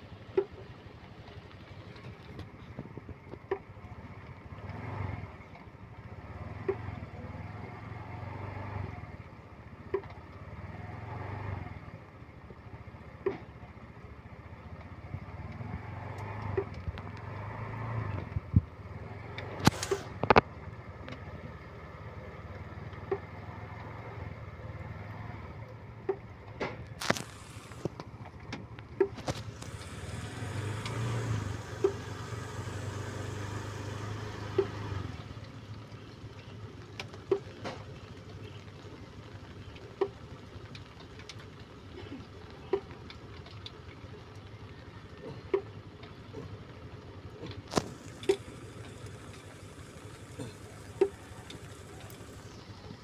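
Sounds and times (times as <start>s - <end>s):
engine running and revving: 0.0s - 53.0s.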